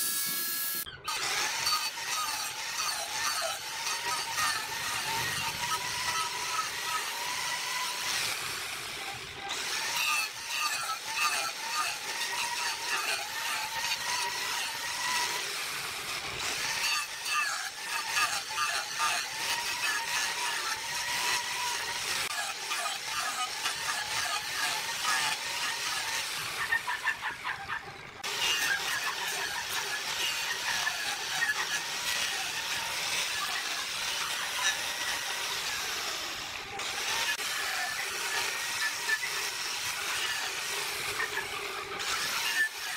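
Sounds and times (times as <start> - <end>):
abrasive disc grinding wood: 0.0 - 42.9
angle grinder motor whine: 0.0 - 42.9.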